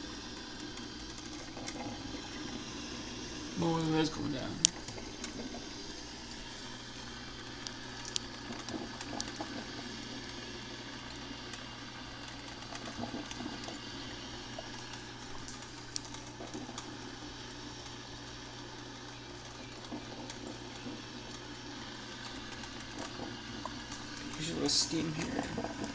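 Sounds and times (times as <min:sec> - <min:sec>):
coffee maker hissing: 0:00.0 - 0:25.9
heating water ticks and pops: 0:00.0 - 0:25.9
low hum: 0:00.0 - 0:25.9.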